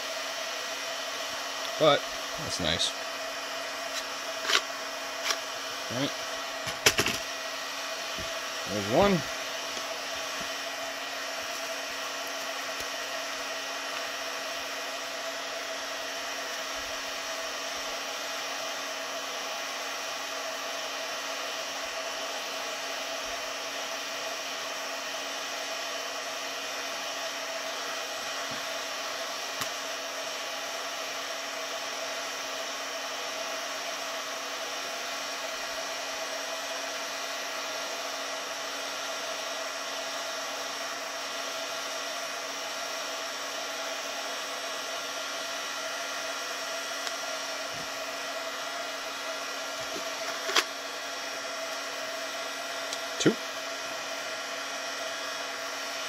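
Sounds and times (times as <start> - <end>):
heat gun blowing: 0.0 - 56.0.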